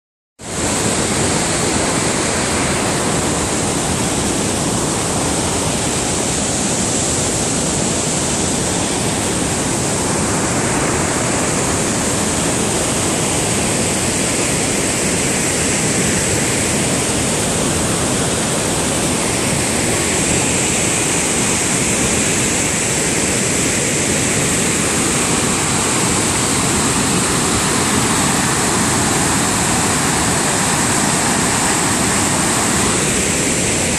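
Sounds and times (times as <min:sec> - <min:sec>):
waterfall rushing: 0:00.4 - 0:33.9.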